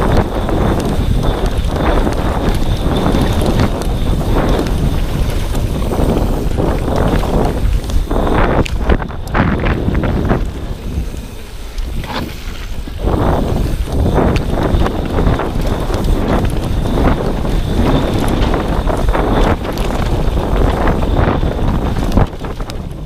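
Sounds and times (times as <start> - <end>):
bike tyres rumbling on dirt: 0.0 - 23.0
wind buffeting microphone: 0.0 - 23.0.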